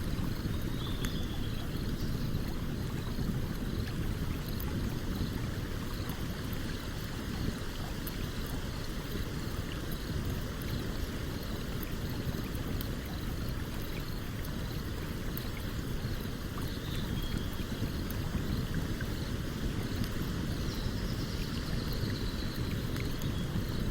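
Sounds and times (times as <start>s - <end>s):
stream water running: 0.0s - 23.9s.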